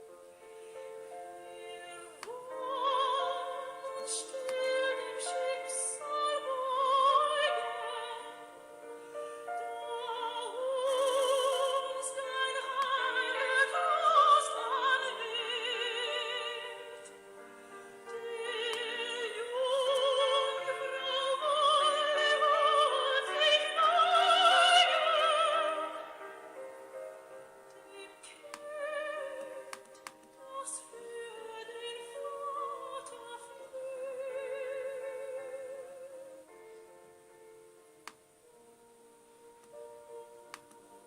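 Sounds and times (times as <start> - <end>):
operatic singing with vibrato: 0.5 - 8.8, 9.6 - 26.9, 27.8 - 36.5.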